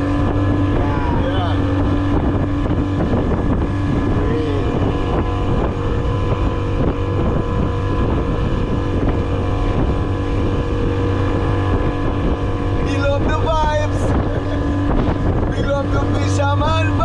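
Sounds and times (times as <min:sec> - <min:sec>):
small boat motor running: 0:00.0 - 0:17.0.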